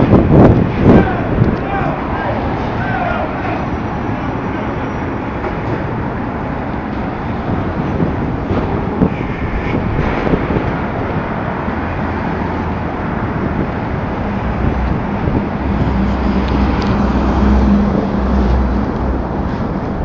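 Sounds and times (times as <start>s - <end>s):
engine low hum: 0.0s - 20.0s
passing cars: 0.0s - 20.0s.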